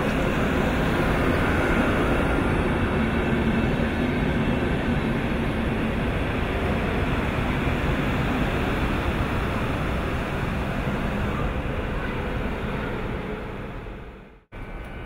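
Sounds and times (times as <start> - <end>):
electric train pulling away: 0.0 - 15.0.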